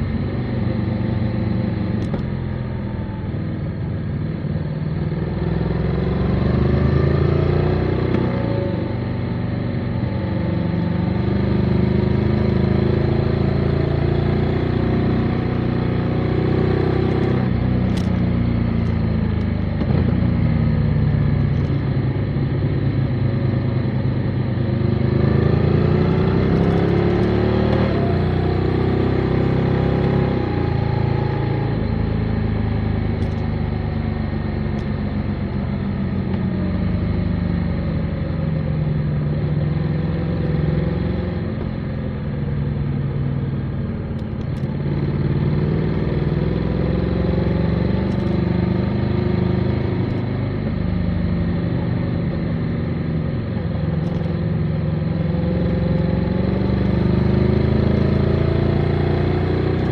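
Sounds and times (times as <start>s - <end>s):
motorcycle engine revving: 4.2s - 59.9s.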